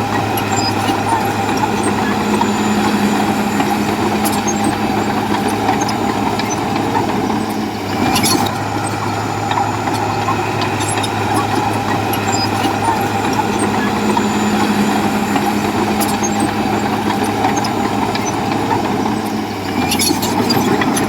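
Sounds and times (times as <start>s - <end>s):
diesel earthmoving machinery running: 0.0s - 21.0s.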